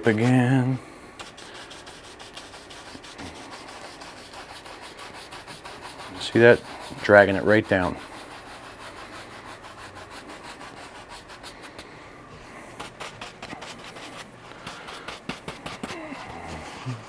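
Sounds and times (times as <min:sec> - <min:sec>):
bristle brush scrubbing wet paint: 0:00.0 - 0:12.0, 0:12.8 - 0:17.0
brush scraping on paper towel: 0:00.0 - 0:12.0, 0:12.8 - 0:17.0.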